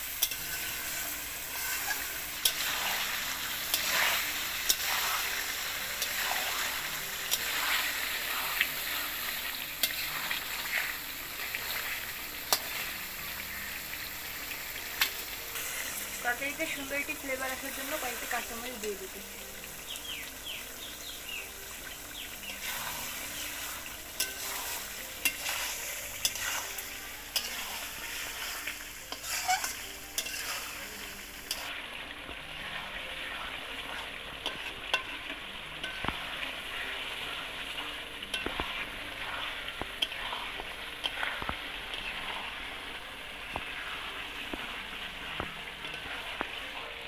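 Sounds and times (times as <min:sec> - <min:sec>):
meat sizzling in hot oil: 0:00.0 - 0:47.0.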